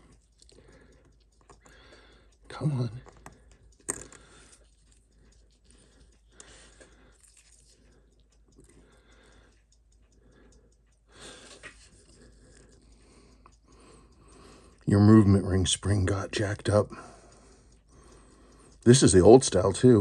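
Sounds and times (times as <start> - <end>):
small clicks and scrapes of tools: 0.0 - 20.0.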